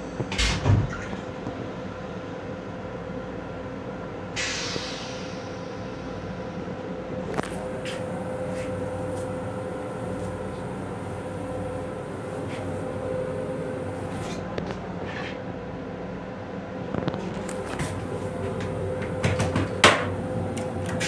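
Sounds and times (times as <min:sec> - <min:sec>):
constant hum: 0:00.0 - 0:21.0
train interior rumble: 0:00.0 - 0:21.0.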